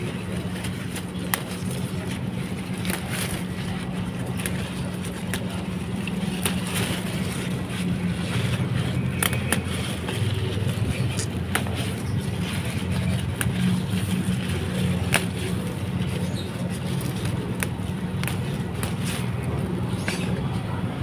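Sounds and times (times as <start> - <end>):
low engine drone: 0.0 - 21.0
plant shoots snapping: 0.3 - 20.7.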